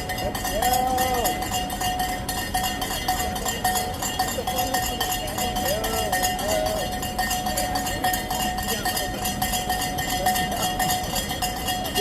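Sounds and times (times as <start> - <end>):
cowbells clanging: 0.0 - 12.0.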